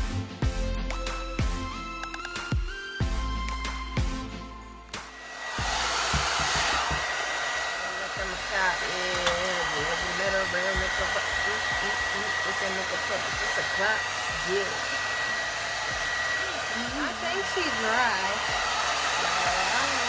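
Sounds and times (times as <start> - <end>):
music: 0.0 - 7.1, 8.2 - 20.0
hair dryer whining: 0.0 - 20.0.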